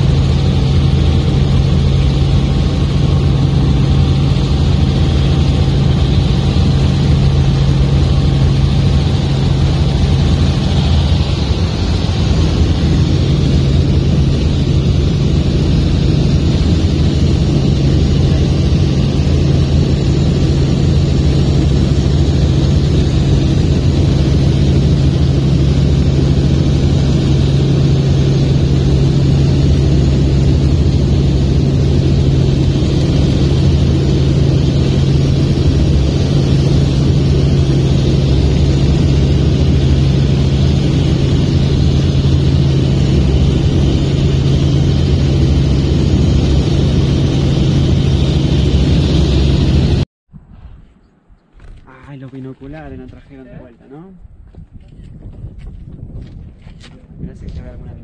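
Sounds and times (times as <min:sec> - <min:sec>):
helicopter engine and rotor drone: 0:00.0 - 0:50.0, 0:51.4 - 0:58.0.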